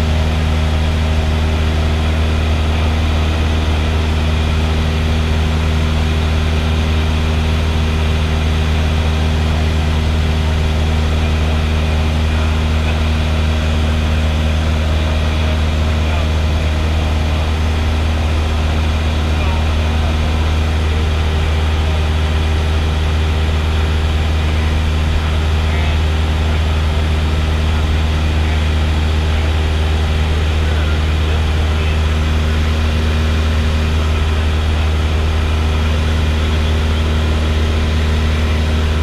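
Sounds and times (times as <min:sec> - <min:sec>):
plane engine droning in cockpit: 0:00.0 - 0:39.0.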